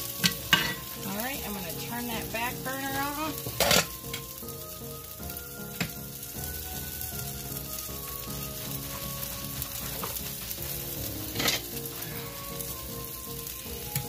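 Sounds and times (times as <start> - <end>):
food sizzling in skillets: 0.0 - 14.0.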